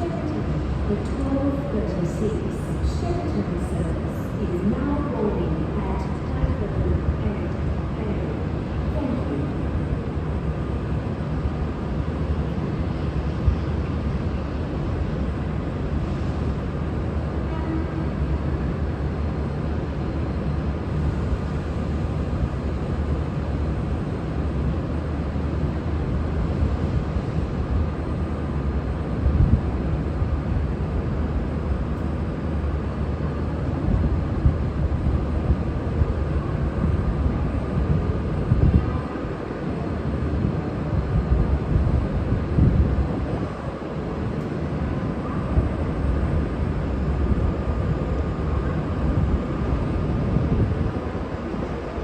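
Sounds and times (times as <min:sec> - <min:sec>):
diesel locomotive engine rumbling: 0:00.0 - 0:52.0.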